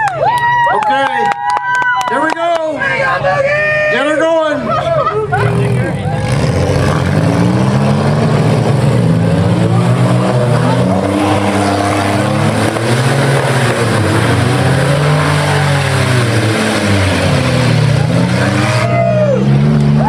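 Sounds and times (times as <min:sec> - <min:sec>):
car engines revving: 0:02.4 - 0:20.0.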